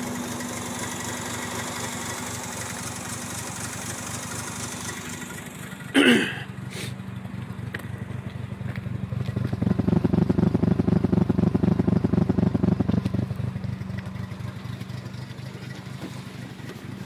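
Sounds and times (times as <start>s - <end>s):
rotary engine misfiring: 0.0s - 17.0s.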